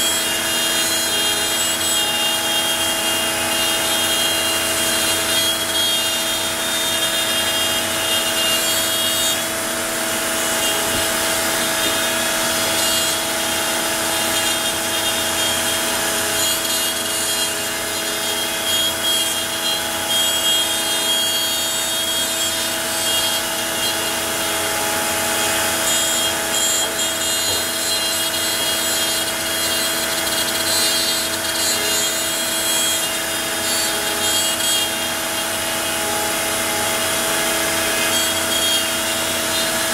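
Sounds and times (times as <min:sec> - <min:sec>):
bit cutting material: 0:00.0 - 0:39.9
router spindle whining: 0:00.0 - 0:39.9.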